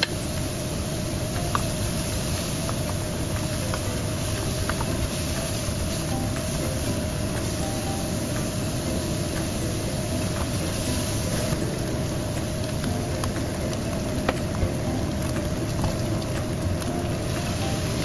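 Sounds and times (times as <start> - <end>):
meat sizzling in a wok: 0.0 - 18.0
steady rushing noise: 0.0 - 18.0.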